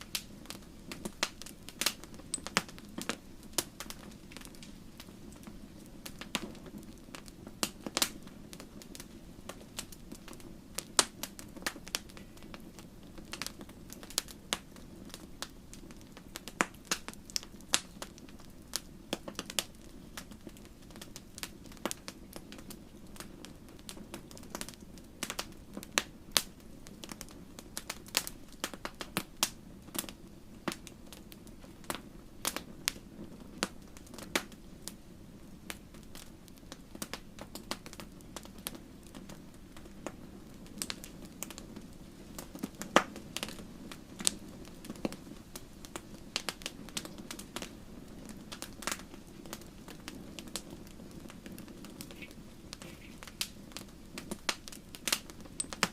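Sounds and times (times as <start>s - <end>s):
low hiss of burning: 0.0s - 55.9s
wood fire crackling: 0.0s - 55.9s.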